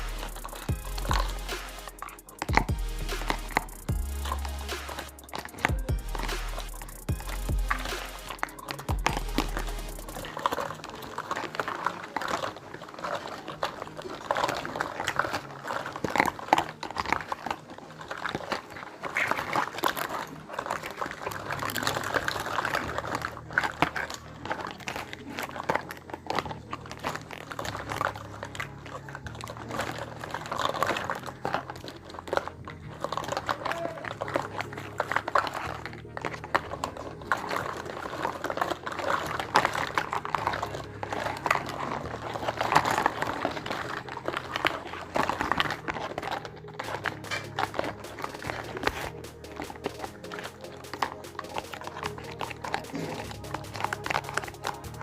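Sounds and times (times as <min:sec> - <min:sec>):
plastic packaging crinkling: 0:00.0 - 0:55.0
plastic toy pieces clicking: 0:00.0 - 0:55.0.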